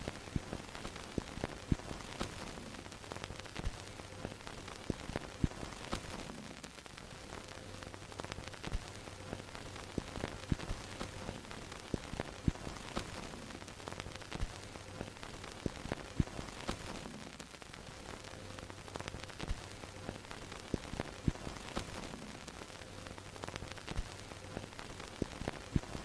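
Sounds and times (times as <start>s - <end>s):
crackles and pops of old film: 0.0s - 26.0s
steady hiss: 0.0s - 26.0s.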